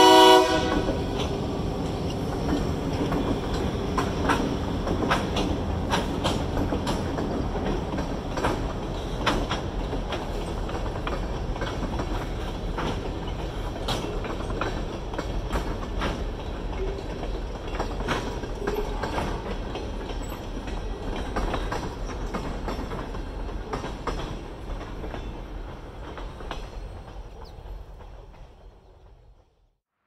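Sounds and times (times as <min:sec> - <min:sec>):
train wheels clacking over rail joints: 0:00.0 - 0:29.5
train rumble: 0:00.0 - 0:29.7.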